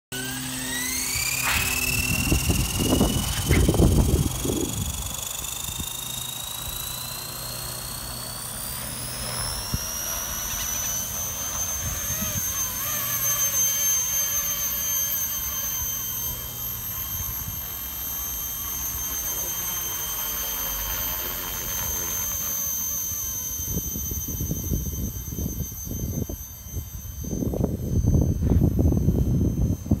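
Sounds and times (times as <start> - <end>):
rc helicopter motor whine: 0.1 - 30.0.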